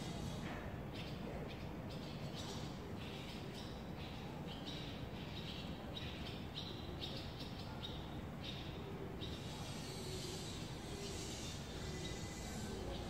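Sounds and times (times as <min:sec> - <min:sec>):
swallows twittering: 0:00.0 - 0:13.0.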